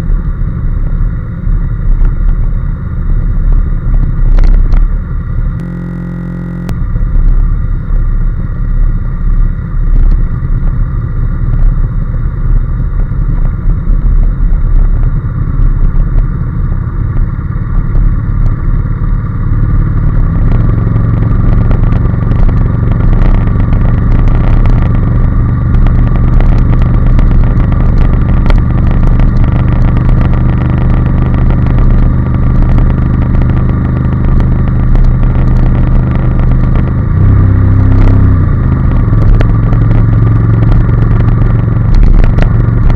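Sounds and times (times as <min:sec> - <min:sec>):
motorcycle engine running: 0:00.0 - 0:42.9
wind and road rumble: 0:00.0 - 0:42.9.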